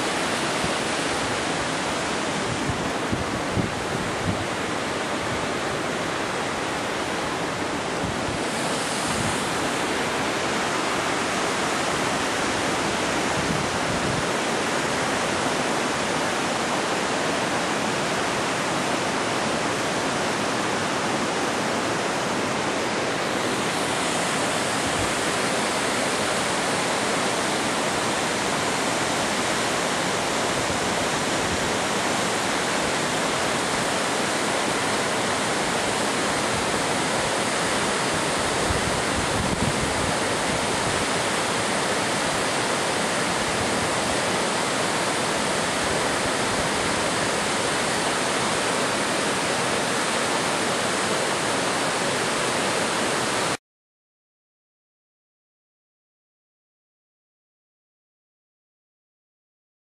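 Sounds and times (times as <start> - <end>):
waterfall rushing: 0.0 - 53.6.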